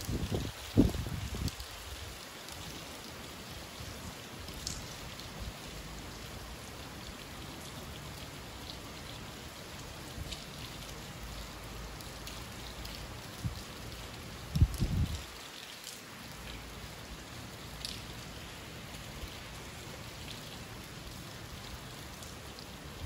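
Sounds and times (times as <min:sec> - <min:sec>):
raindrop ticks: 0:00.0 - 0:03.2, 0:04.4 - 0:05.9, 0:06.8 - 0:23.0
rain falling: 0:00.0 - 0:23.0.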